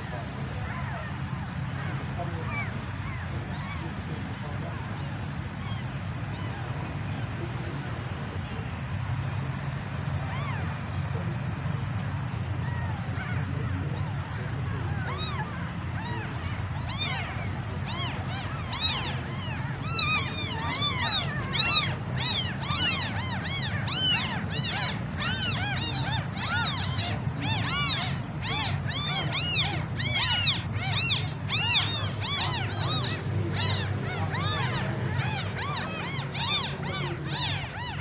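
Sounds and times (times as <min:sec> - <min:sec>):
kittens mewing: 0:00.0 - 0:38.0.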